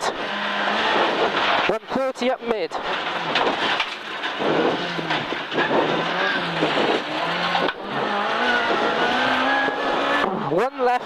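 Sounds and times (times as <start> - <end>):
rally car engine revving: 0.0 - 11.0
road and wind noise: 0.0 - 11.0.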